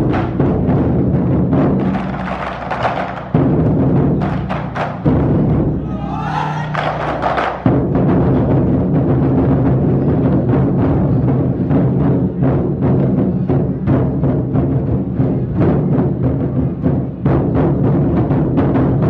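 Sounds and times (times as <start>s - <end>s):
large drums beaten fast: 0.0s - 19.0s.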